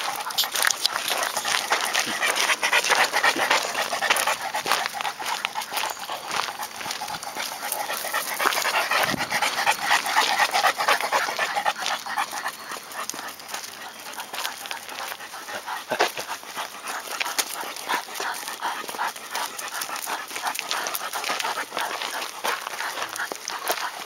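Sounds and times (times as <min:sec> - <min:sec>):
dogs panting: 0:00.0 - 0:24.0
footsteps crunching on gravel: 0:00.0 - 0:24.0.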